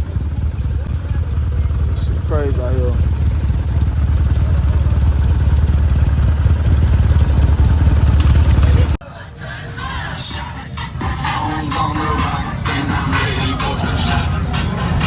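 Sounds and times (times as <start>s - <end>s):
vehicle engine low rumble: 0.0s - 15.0s.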